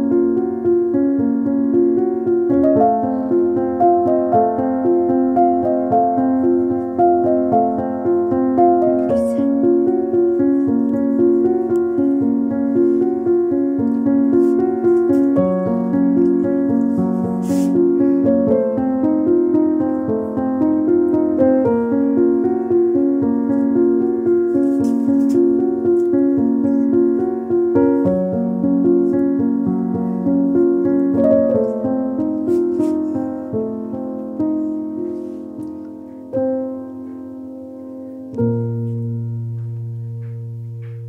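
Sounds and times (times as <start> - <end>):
piano music: 0.0 - 41.0.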